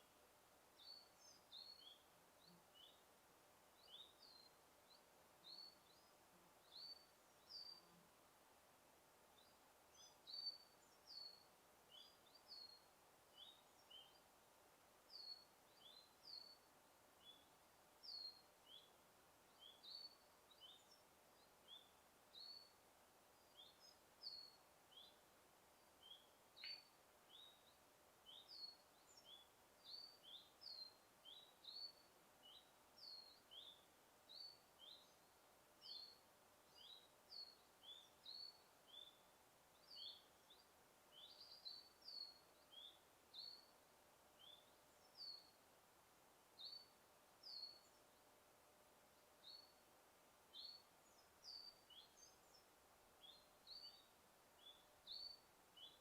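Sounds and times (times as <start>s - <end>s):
soft background hiss: 0.0s - 56.0s
bird chirping: 0.8s - 3.1s, 3.8s - 8.0s, 9.4s - 14.3s, 15.1s - 43.8s, 44.4s - 45.6s, 46.6s - 48.3s, 49.1s - 49.8s, 50.5s - 56.0s.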